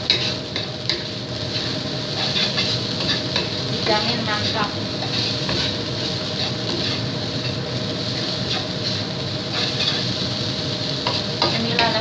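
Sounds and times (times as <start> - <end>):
rice sizzling in a wok: 0.0 - 12.0
wooden spatula scraping wok: 0.0 - 12.0.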